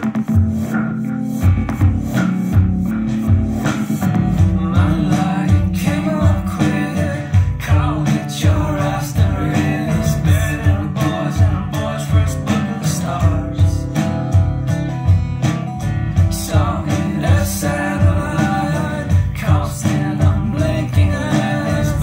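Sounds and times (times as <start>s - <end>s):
song with singing over loudspeakers: 0.0s - 22.0s.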